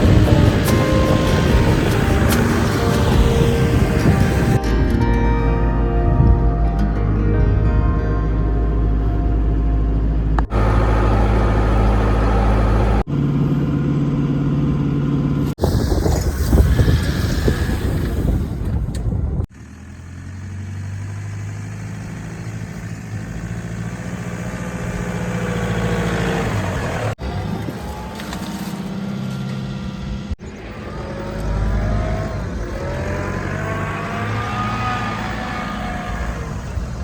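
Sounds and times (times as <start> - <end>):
car engine hum: 0.0 - 6.3, 8.2 - 37.0
road noise: 0.0 - 6.8, 7.4 - 37.0.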